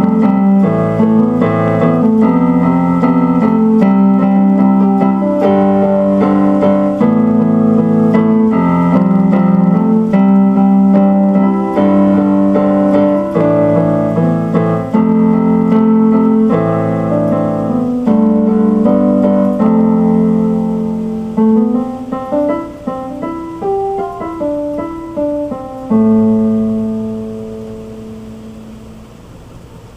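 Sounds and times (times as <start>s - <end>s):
piano music: 0.0s - 29.4s.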